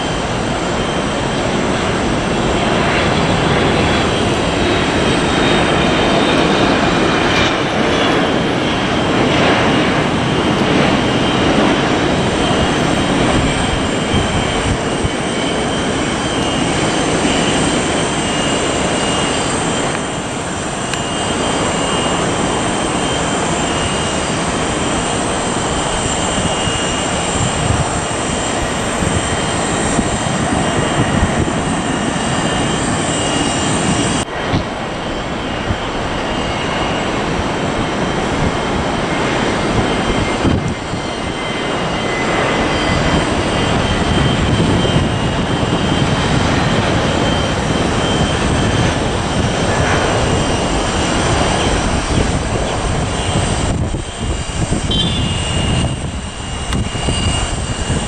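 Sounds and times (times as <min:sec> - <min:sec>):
high jet whine: 0:00.0 - 0:58.0
jet engine rumble: 0:00.0 - 0:58.0.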